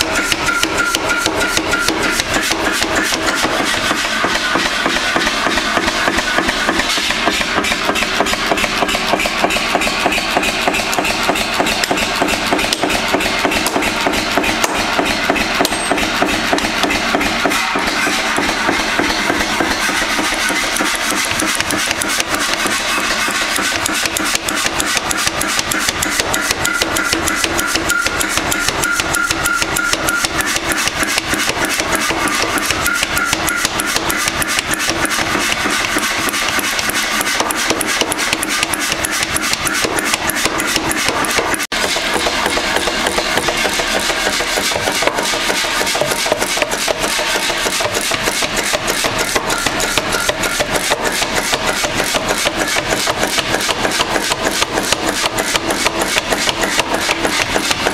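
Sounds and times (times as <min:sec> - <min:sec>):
power hammer pounding iron: 0:00.0 - 0:57.9.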